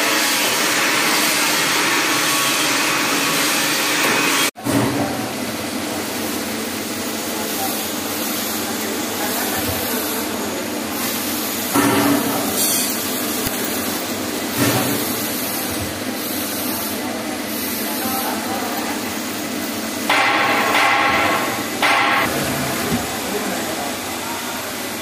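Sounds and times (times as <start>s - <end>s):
lathe and coolant hiss: 0.0s - 4.5s, 5.8s - 25.0s.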